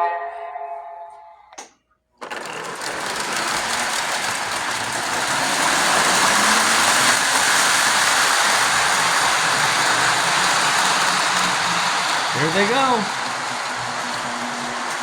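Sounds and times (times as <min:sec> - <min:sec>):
model trains rumbling on track: 0:02.2 - 0:15.0.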